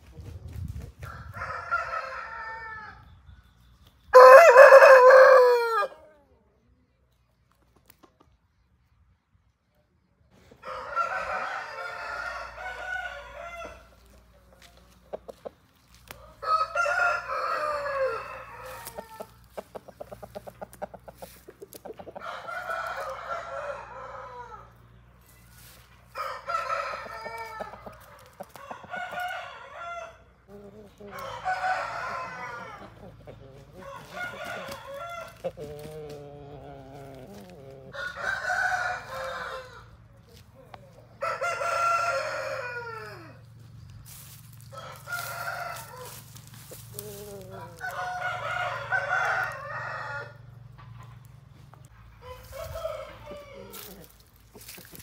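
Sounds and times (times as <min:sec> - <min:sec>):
roosters crowing: 0:00.9 - 0:03.2, 0:04.1 - 0:06.2, 0:10.5 - 0:55.0.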